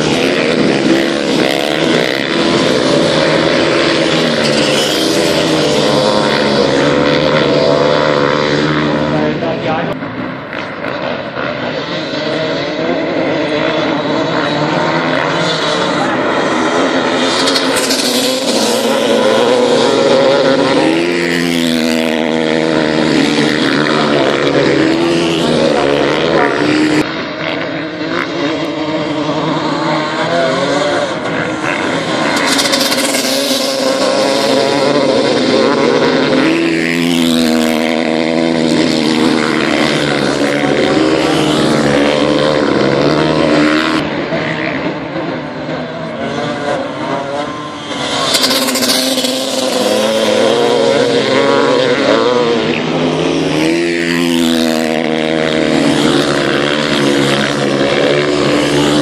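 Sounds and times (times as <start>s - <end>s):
racing motorcycles passing at high revs: 0.0s - 59.0s.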